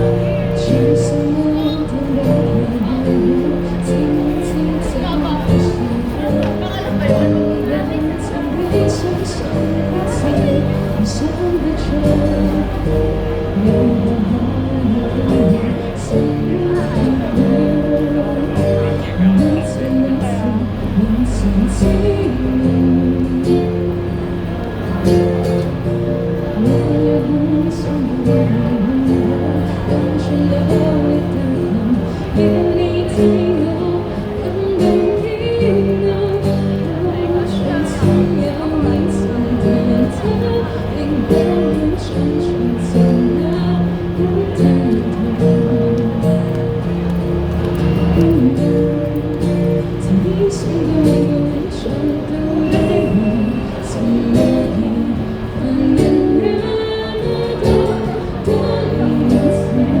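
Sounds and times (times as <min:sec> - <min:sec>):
guitar: 0:00.0 - 1:00.0
person singing: 0:00.0 - 1:00.0.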